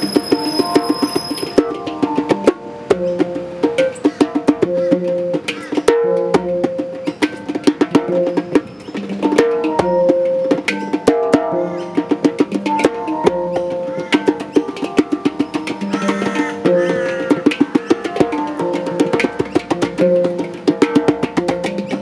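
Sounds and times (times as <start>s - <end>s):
djembe strikes: 0.0s - 22.0s
handpan ringing notes: 0.0s - 22.0s.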